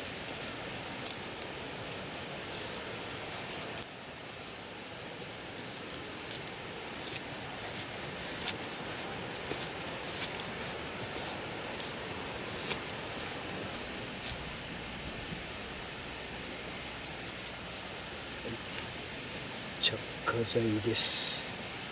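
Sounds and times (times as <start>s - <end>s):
knife scraping wood: 0.0s - 17.7s.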